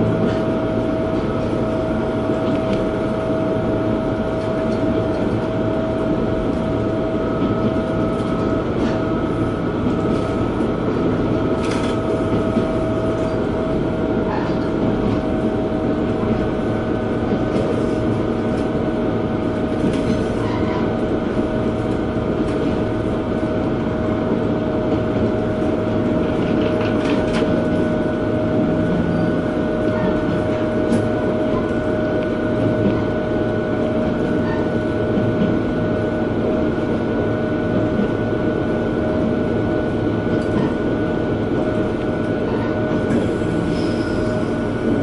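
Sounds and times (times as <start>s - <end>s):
diesel engine drone: 0.0s - 45.0s.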